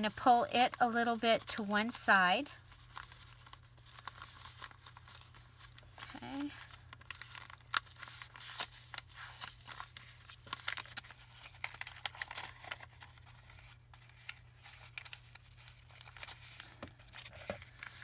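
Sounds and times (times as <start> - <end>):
paper rustling and crinkling: 2.3 - 18.0.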